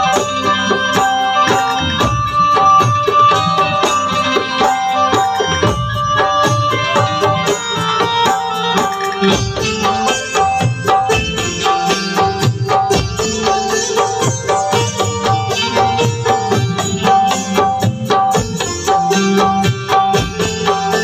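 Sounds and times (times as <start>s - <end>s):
keyboard melody: 0.0s - 21.0s
tabla rhythm: 0.0s - 21.0s.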